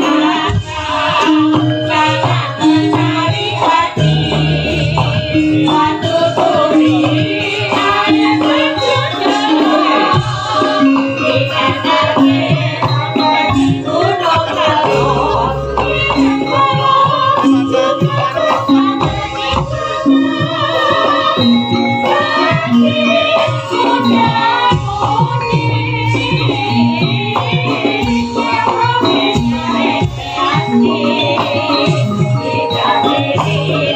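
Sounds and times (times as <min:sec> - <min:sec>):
metallophone notes: 0:00.0 - 0:33.9
woman singing: 0:00.0 - 0:33.9.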